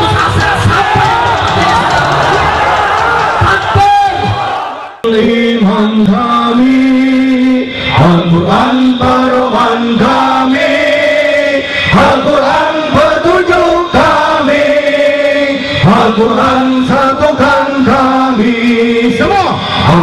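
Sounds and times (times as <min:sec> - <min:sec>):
men chanting over loudspeakers: 0:00.0 - 0:20.0.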